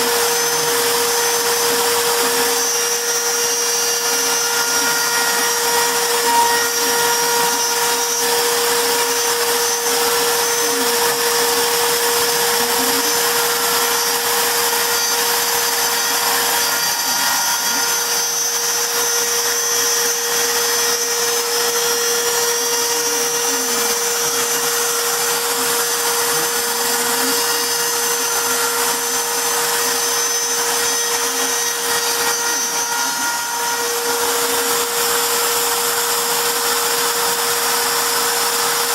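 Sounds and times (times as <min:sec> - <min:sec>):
cnc router spindle whine: 0:00.0 - 0:38.9.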